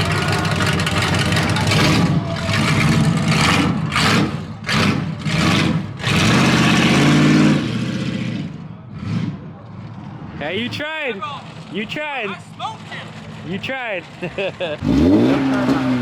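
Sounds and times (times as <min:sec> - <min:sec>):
car engine revving: 0:00.0 - 0:10.8, 0:12.6 - 0:16.0.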